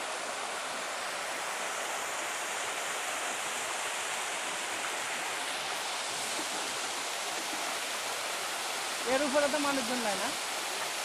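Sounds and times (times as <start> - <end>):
waterfall rushing over boulders: 0.0 - 11.0.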